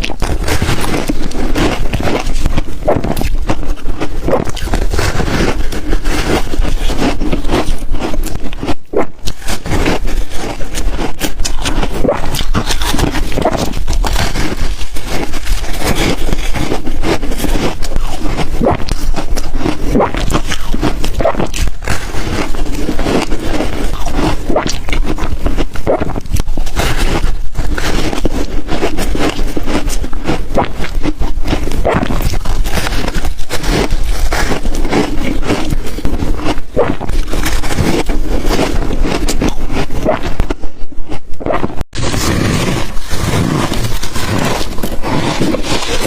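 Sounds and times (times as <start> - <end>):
ice being chewed: 0.0 - 46.0.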